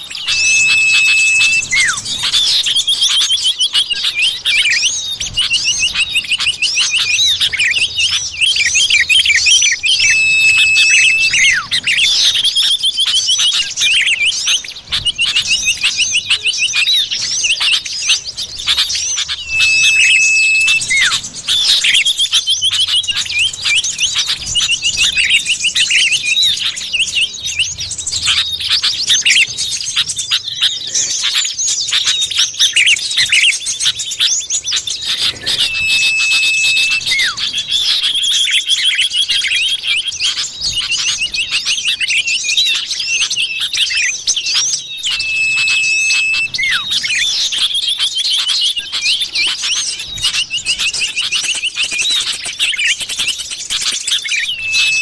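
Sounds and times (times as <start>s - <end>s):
bird chirping and twittering: 0.0s - 55.0s
long level bird whistle: 0.0s - 55.0s.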